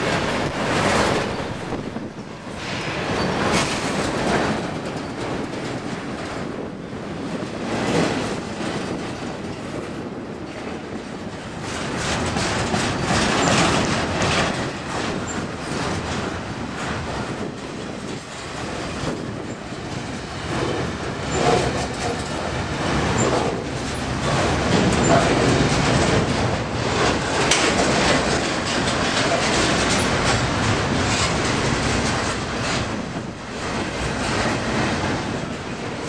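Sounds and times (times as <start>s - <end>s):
train wheels clattering over rails: 0.0s - 36.0s.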